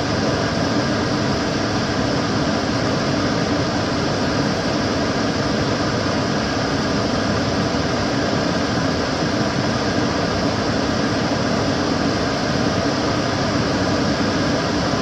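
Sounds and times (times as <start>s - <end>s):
extractor fan running: 0.0s - 15.0s.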